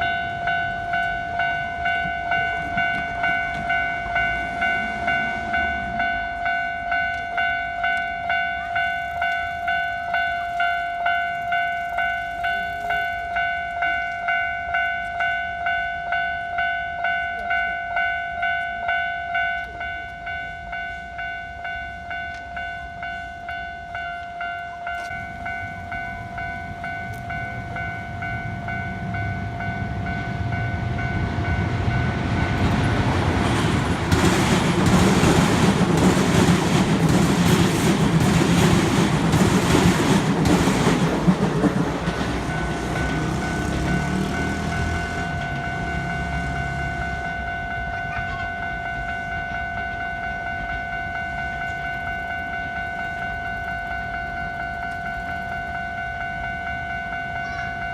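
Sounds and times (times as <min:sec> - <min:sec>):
railroad crossing bell: 0:00.0 - 0:57.9
train rumble: 0:00.0 - 0:57.9.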